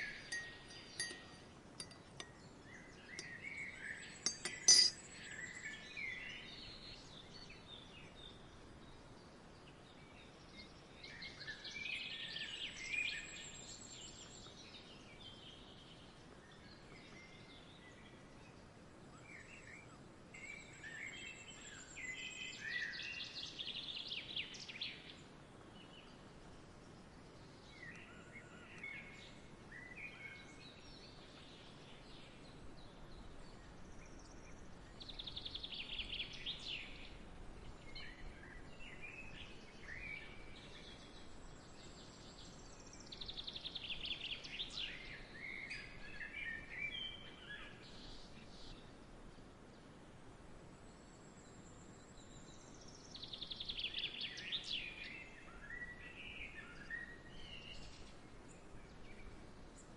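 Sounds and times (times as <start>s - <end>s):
faint outdoor hiss: 0.0s - 59.9s
songbirds trilling and chirping: 0.0s - 59.9s.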